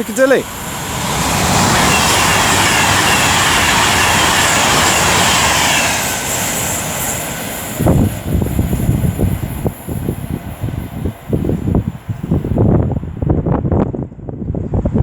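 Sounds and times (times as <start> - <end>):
electric train passing at speed: 0.0 - 15.0
wind buffeting microphone: 0.2 - 15.0.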